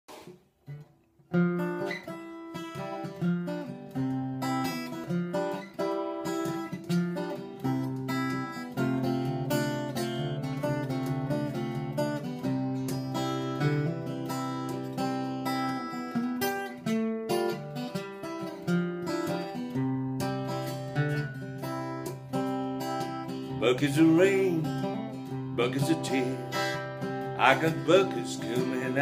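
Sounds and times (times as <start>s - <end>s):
acoustic guitar playing: 0.1s - 29.0s.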